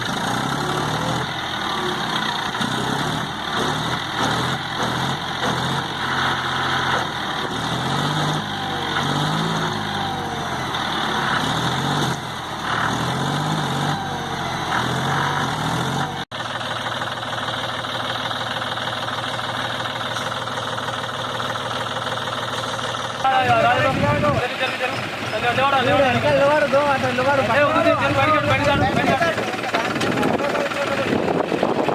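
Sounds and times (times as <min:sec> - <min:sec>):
tractor engine revving: 0:00.0 - 0:31.9.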